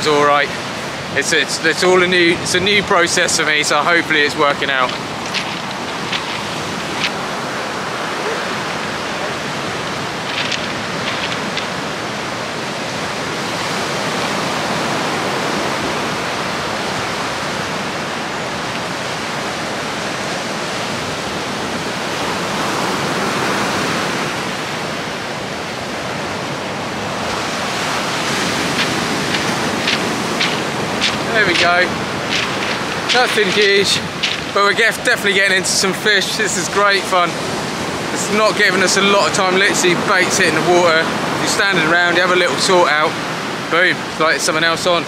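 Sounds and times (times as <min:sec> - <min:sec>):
surf breaking on shore: 0:00.0 - 0:45.0.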